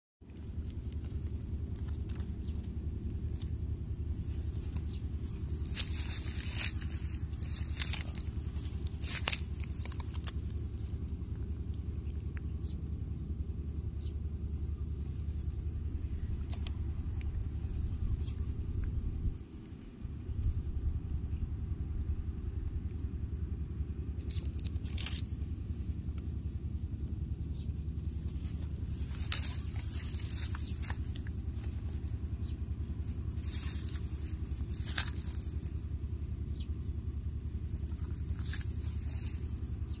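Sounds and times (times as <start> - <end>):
dry straw rustling: 0.2 - 21.3, 22.4 - 40.0
steady low rumble: 0.2 - 40.0.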